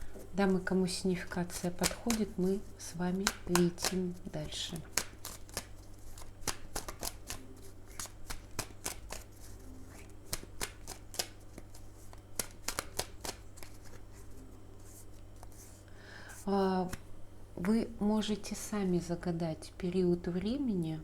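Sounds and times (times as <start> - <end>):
cards being shuffled by hand: 0.0 - 17.0.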